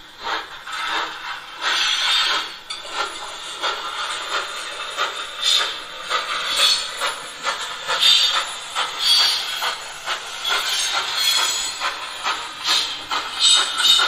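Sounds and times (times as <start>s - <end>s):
steady steam hiss: 0.0s - 14.0s
steam chuffs: 0.0s - 14.0s.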